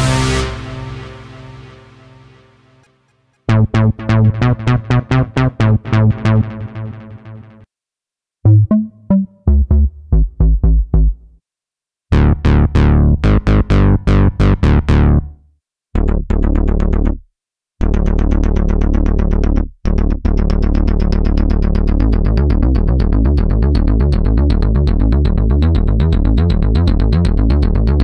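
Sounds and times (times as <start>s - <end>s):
synthesizer bass and stab notes: 0.0s - 7.6s, 8.5s - 11.3s, 12.1s - 15.3s, 16.0s - 17.2s, 17.8s - 28.0s.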